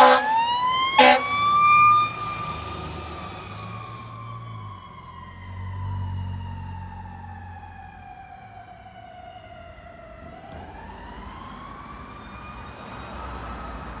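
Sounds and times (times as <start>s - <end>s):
fire truck siren wailing: 0.0s - 12.6s.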